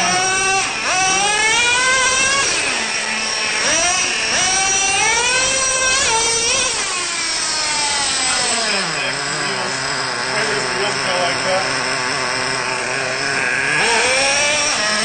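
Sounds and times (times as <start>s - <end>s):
small nitro engine revving: 0.0s - 15.0s.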